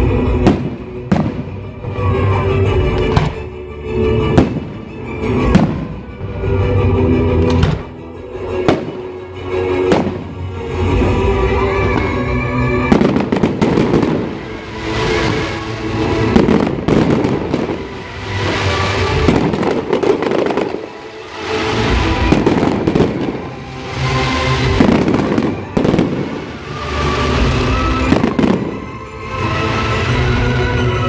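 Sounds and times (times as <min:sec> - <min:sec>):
fireworks bangs and crackling: 0:00.0 - 0:03.5, 0:04.2 - 0:30.8
music playing: 0:00.0 - 0:31.0.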